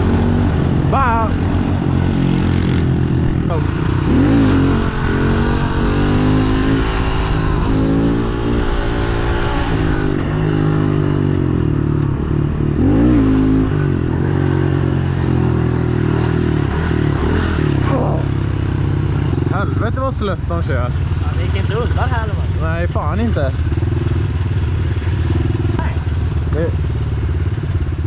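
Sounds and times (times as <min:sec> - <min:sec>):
pit bike engine running: 0:00.0 - 0:28.0.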